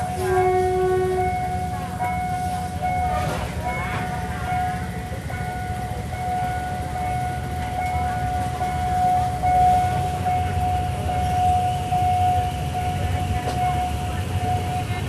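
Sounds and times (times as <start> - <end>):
train rumbling: 0.0 - 15.0
wavering whine: 0.0 - 15.0.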